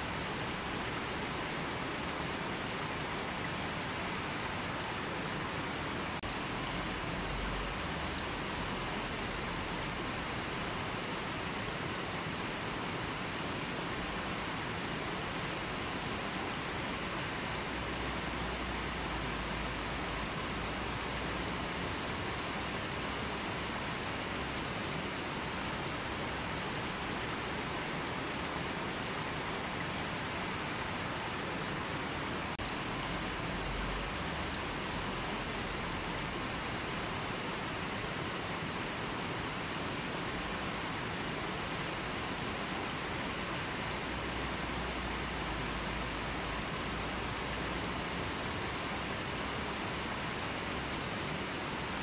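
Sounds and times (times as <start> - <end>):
river rushing over boulders: 0.0 - 52.0.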